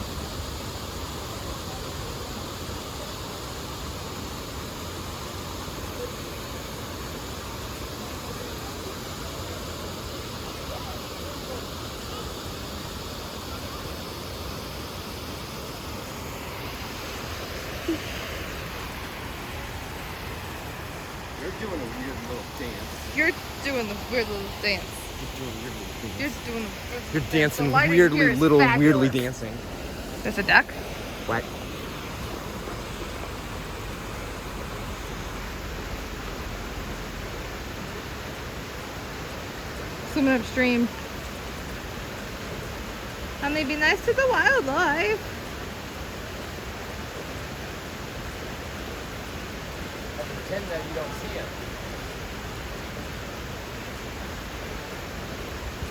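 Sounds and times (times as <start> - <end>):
falling water rushing: 0.0 - 55.9.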